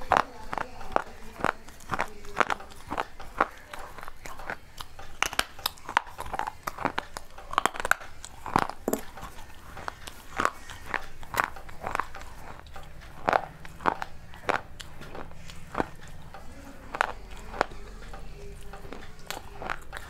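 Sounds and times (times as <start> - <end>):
crunching on clay shards: 0.0 - 20.0.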